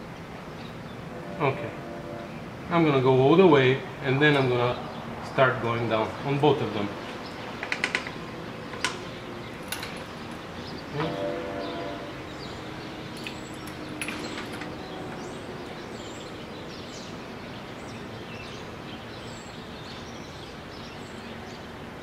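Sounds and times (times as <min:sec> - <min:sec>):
birds chirping: 0:00.0 - 0:22.0
steady background hiss: 0:00.0 - 0:22.0.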